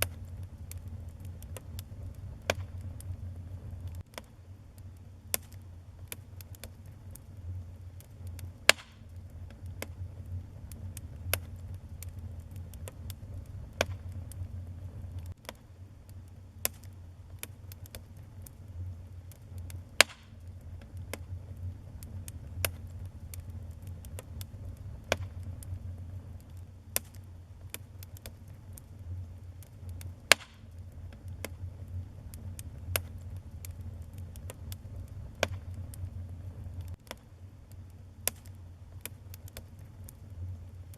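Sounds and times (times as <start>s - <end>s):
fire crackling and popping: 0.0s - 40.9s
low fire rumble: 0.0s - 40.9s.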